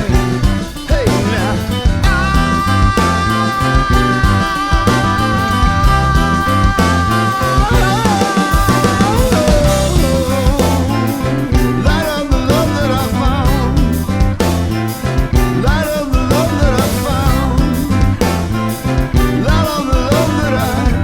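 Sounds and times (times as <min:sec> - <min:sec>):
bass guitar: 0:00.0 - 0:21.0
drum kit: 0:00.0 - 0:21.0
guitar: 0:00.0 - 0:21.0
wavering lead melody: 0:00.0 - 0:21.0.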